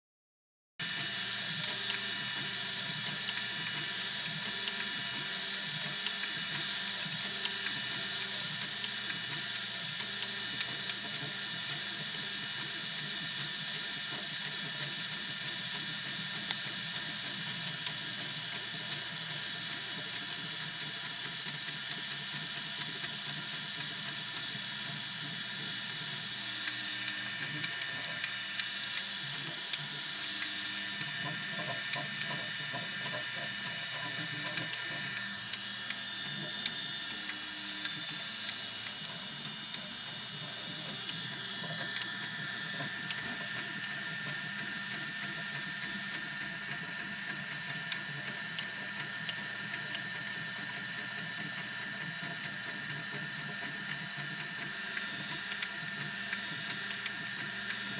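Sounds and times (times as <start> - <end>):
cooling fan whirring: 0.8 - 57.9
stepper motors buzzing: 0.8 - 57.9.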